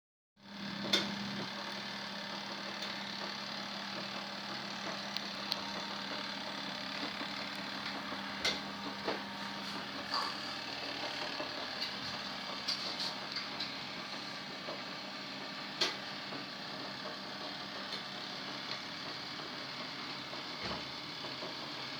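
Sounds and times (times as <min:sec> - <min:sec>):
washing machine motor hum: 0:00.4 - 0:21.9.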